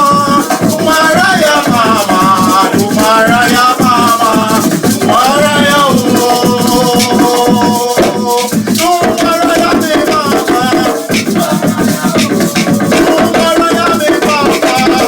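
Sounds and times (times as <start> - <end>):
drums and shakers rhythm: 0.0 - 15.0
voices singing held notes: 0.0 - 15.0.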